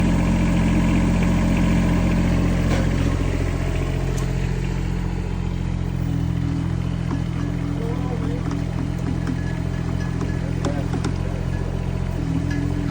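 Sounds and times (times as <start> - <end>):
excavator engine running: 0.0 - 12.9.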